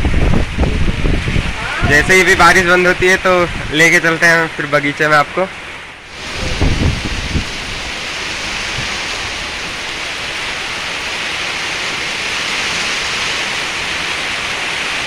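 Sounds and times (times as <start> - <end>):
heavy rain pouring on water: 0.0 - 15.0.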